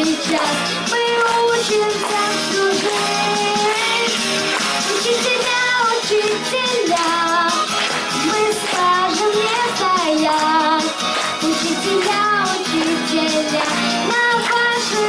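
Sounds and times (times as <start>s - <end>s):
child singing: 0.0s - 4.2s, 4.9s - 7.6s, 8.2s - 15.0s
instrumental accompaniment: 0.0s - 15.0s.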